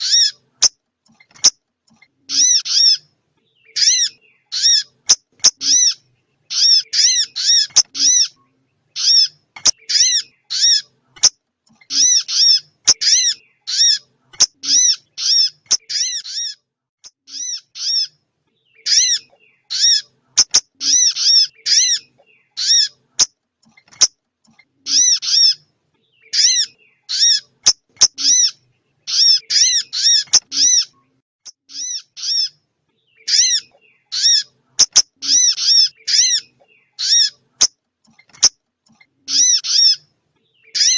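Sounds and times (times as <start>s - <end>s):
recorded high-pitched bird calls: 0.0s - 40.9s.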